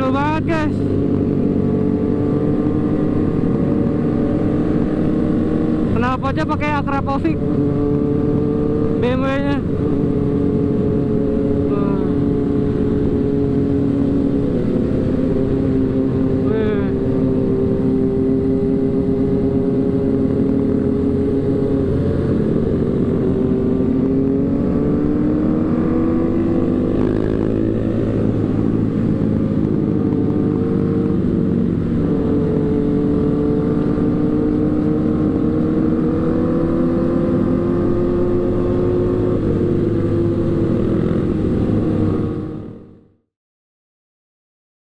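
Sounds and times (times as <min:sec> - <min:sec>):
motorcycle engine running: 0:00.0 - 0:43.2
road and wind noise: 0:00.0 - 0:43.3.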